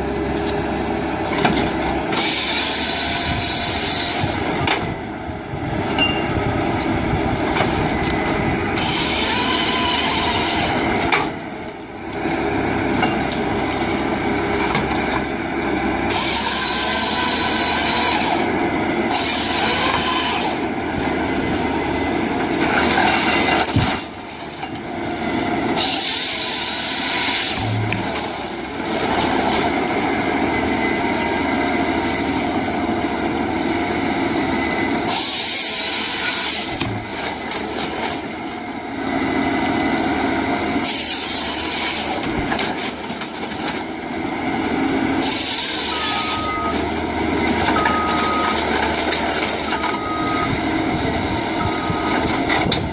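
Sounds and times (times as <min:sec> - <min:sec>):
heavy machinery engines: 0:00.0 - 0:52.9.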